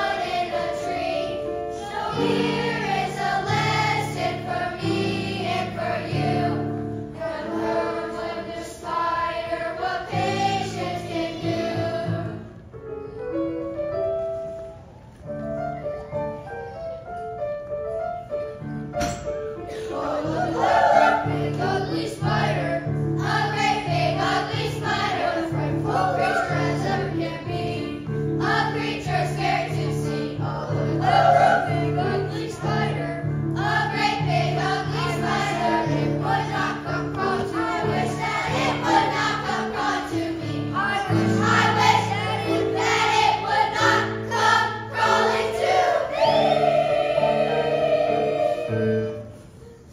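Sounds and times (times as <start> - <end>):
children's choir singing: 0.0 - 12.7, 19.6 - 49.9.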